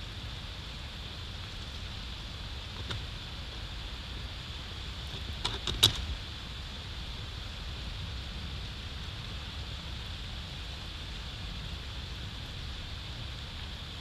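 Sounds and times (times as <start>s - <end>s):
wind-like hiss: 0.0s - 14.0s.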